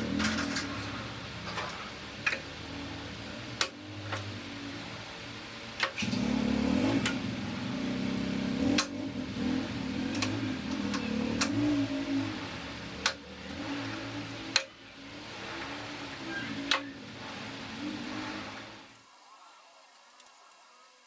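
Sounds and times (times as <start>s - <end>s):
machine hum: 0.0s - 19.3s.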